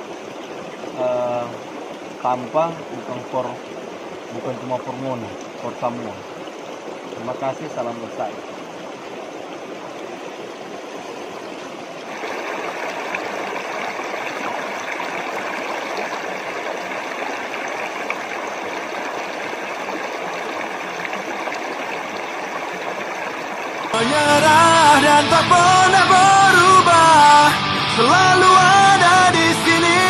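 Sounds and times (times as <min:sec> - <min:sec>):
stream water running over rocks: 0:00.0 - 0:27.5.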